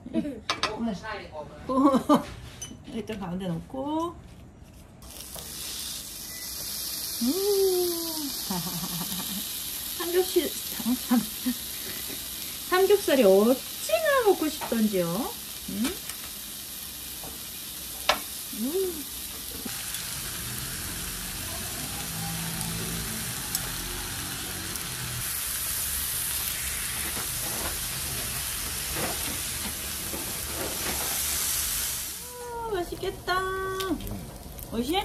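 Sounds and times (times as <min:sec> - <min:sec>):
pork sizzling on a grill: 0:05.0 - 0:35.0.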